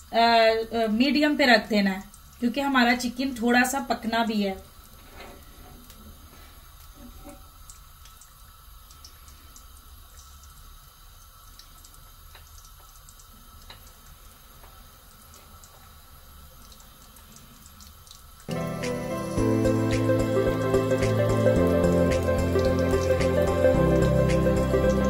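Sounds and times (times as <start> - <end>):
chicken frying in hot oil: 0.0 - 23.6.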